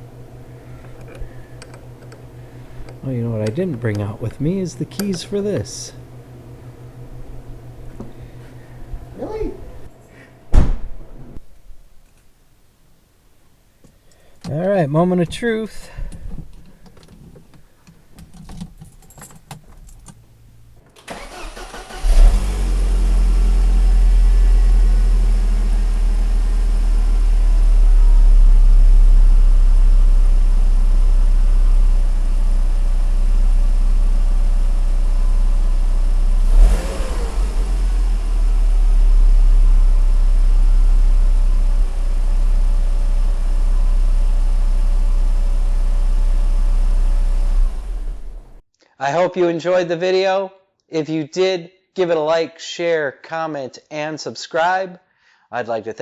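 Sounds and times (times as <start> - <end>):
car engine starting and idling: 0.0 - 12.0, 12.6 - 48.6.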